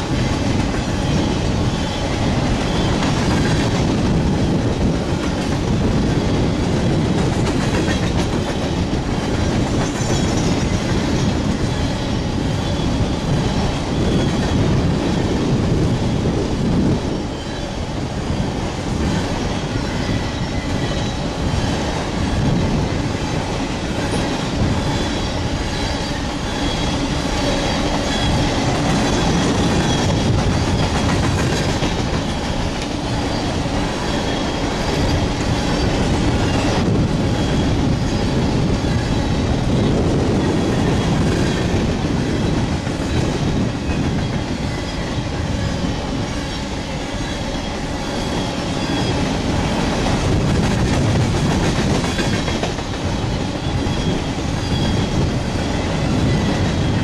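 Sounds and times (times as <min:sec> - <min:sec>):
freight train rolling past: 0:00.0 - 0:57.0
steel wheels clattering on rails: 0:00.0 - 0:57.0.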